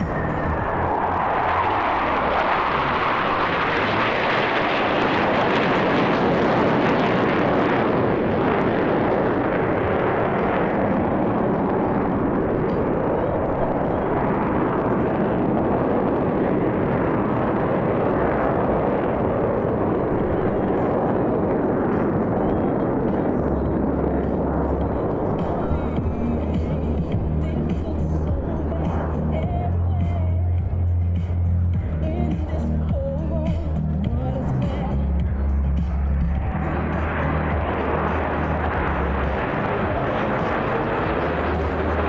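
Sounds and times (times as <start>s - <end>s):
jet engines flying overhead: 0.0s - 42.0s.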